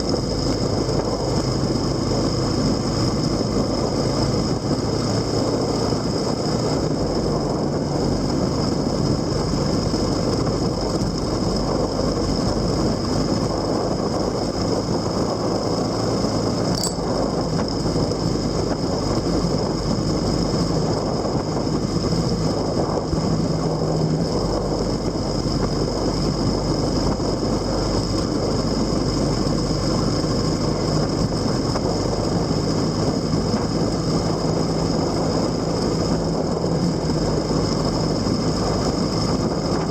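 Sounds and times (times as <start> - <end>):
motorcycle engine drone: 0.0 - 39.9
wind and road rush: 0.0 - 39.9.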